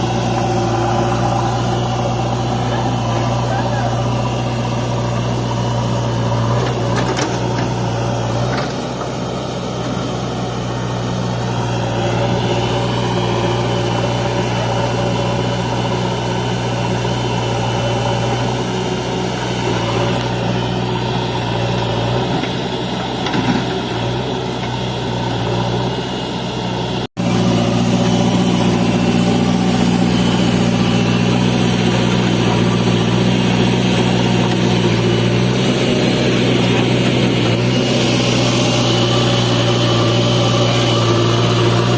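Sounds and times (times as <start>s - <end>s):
diesel engine humming: 0.0s - 41.9s.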